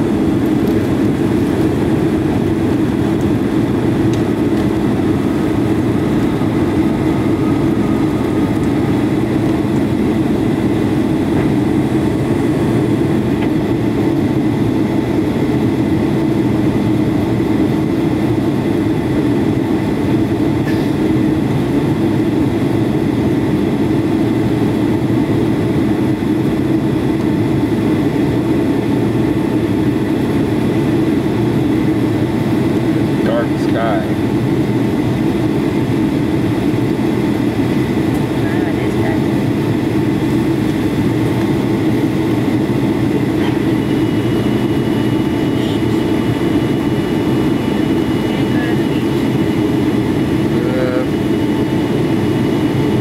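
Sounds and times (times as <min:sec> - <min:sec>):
jet airliner cabin rumble: 0:00.0 - 0:53.0.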